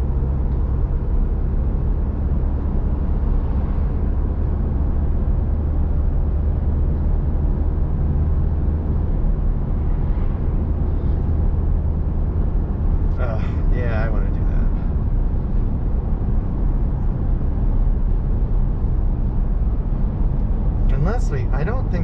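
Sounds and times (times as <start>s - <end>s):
vehicle engine cruising: 0.0s - 22.0s.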